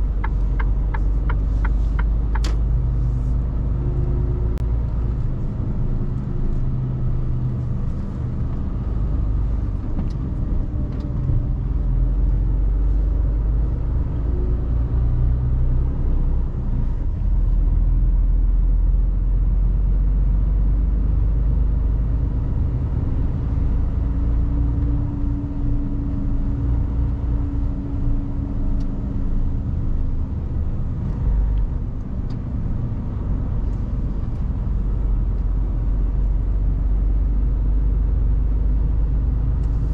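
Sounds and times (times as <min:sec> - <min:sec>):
road rumble: 0:00.0 - 0:39.9.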